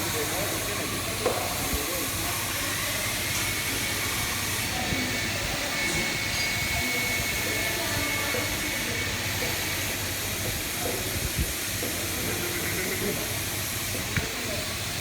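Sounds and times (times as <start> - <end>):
laser cutting machine hissing: 0.0 - 15.0.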